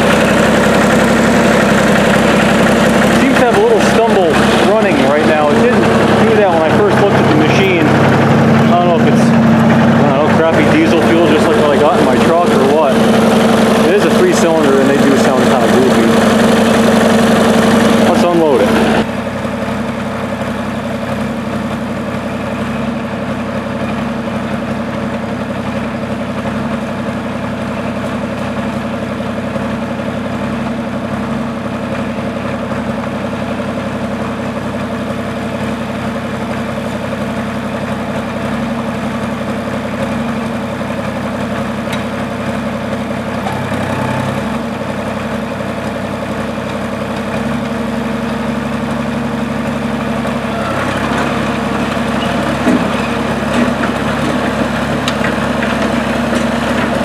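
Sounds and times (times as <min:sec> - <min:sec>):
dozer engine idling: 0:00.0 - 0:57.0.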